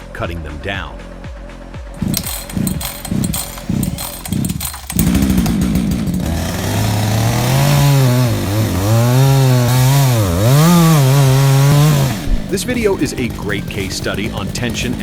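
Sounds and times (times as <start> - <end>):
rhythmic pulsing: 1.9 - 15.0
chainsaw engine revving: 2.0 - 15.0.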